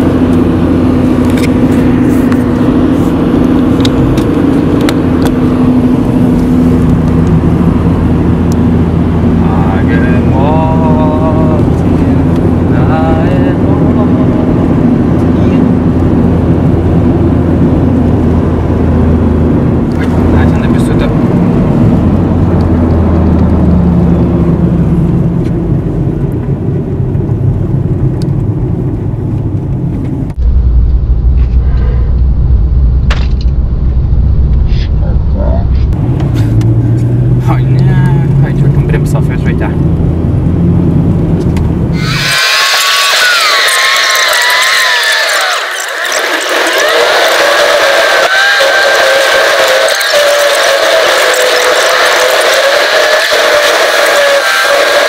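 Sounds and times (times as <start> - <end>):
car engine hum: 0.0 - 55.0
road noise rushing: 0.0 - 55.0.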